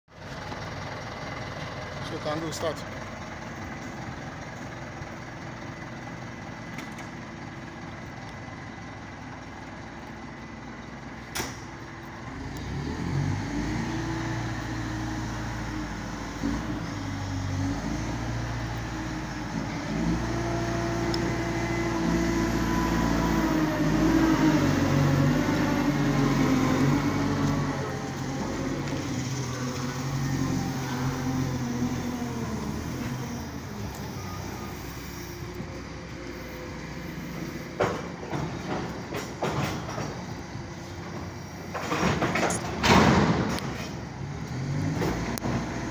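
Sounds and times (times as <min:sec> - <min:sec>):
diesel engine idling and revving: 0:00.1 - 0:45.9.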